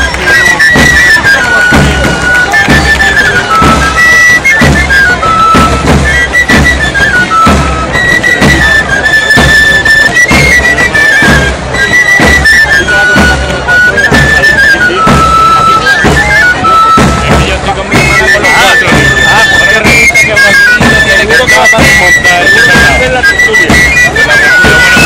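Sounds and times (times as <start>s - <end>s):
pipe melody: 0.0s - 25.0s
tabor drums beating: 0.0s - 25.0s.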